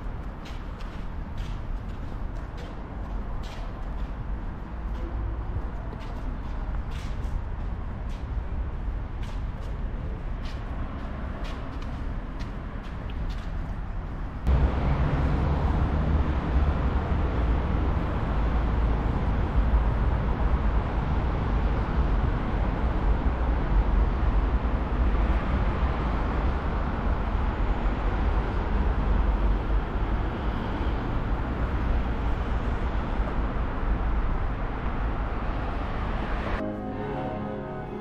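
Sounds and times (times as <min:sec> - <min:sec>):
low city rumble: 0:00.0 - 0:38.0.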